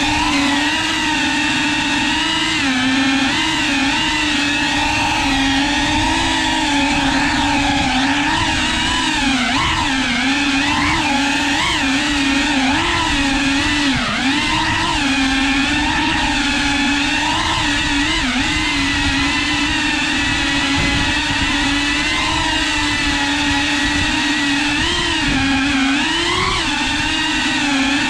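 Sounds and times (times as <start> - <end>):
quadcopter motors buzzing: 0.0 - 28.0.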